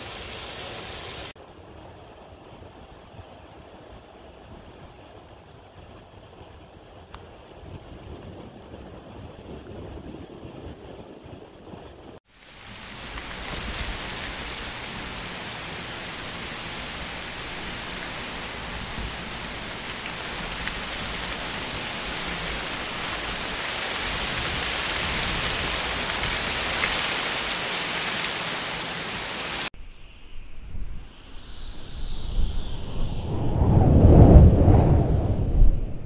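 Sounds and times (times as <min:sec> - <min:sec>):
steady rain falling: 0:00.0 - 0:29.7.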